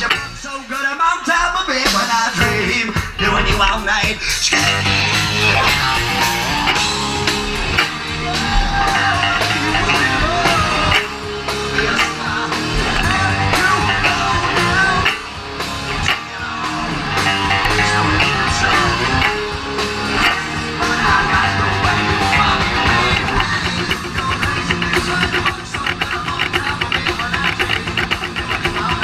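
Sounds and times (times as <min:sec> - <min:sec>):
bass guitar: 0:00.0 - 0:29.0
drums: 0:00.0 - 0:29.0
electric guitar lead: 0:01.4 - 0:29.0.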